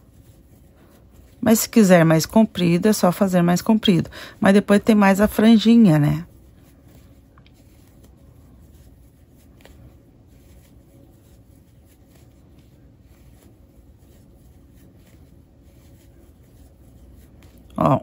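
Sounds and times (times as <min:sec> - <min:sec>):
low room hum: 0:00.0 - 0:18.0
yarn rustling through crochet hook: 0:00.0 - 0:18.0.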